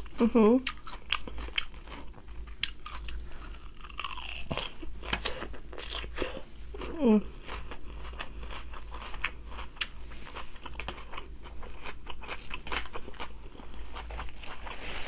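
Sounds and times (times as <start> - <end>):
person crunching food: 0.0 - 15.0.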